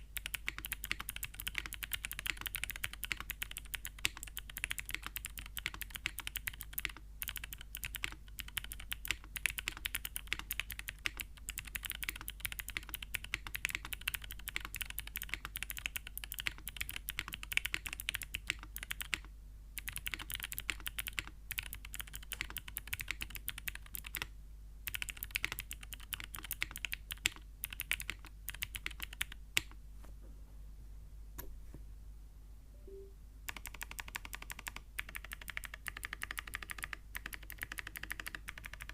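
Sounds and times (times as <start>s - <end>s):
fast typing on clicky keyboard: 0.0s - 29.8s, 33.5s - 38.9s.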